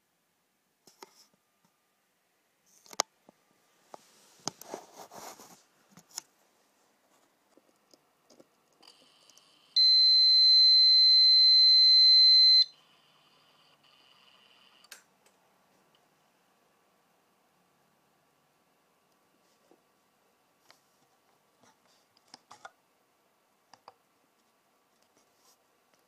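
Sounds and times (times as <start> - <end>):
faint electrical whine: 0.0 - 26.0.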